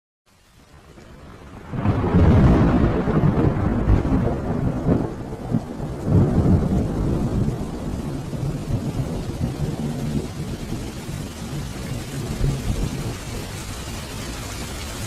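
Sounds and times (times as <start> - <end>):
rain: 0.3 - 15.0
thunder rumbling: 0.8 - 15.0.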